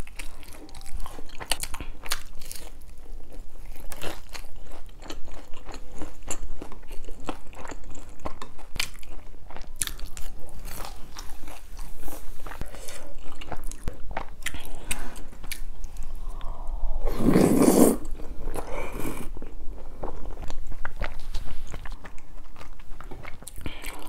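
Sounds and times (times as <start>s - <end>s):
crunching and chewing fried food: 0.0s - 16.4s, 18.0s - 24.0s.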